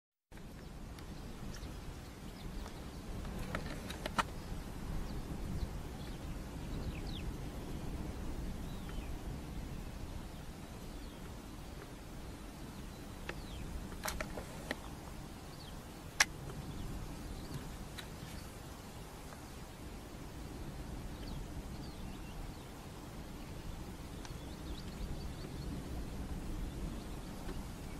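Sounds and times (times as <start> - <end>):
small birds chirping: 0.3 - 27.9
steady low rumble: 0.3 - 27.9.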